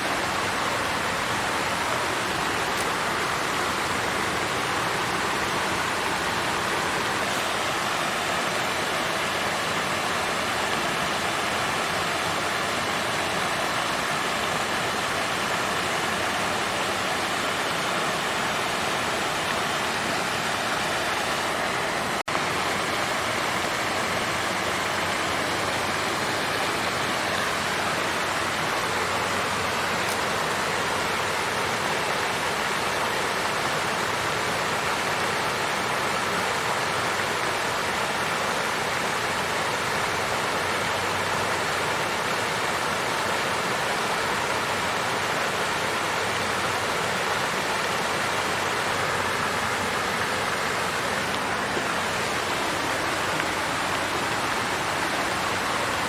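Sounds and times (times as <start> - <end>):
water fountain splashing: 0.0 - 56.0.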